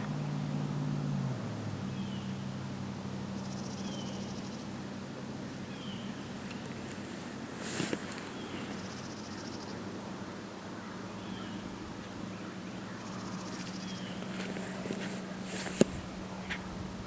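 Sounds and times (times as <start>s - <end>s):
steady low hum: 0.0s - 17.0s
birds chirping: 1.8s - 10.0s, 10.6s - 16.8s.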